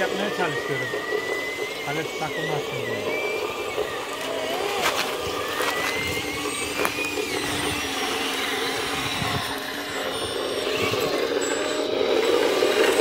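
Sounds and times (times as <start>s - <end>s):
electric motors and hydraulic pump whining: 0.0s - 13.0s.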